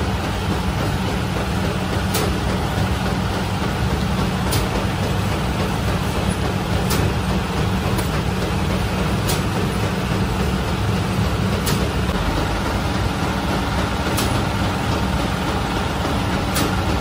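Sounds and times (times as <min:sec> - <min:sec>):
bakery machinery drone: 0:00.0 - 0:17.0.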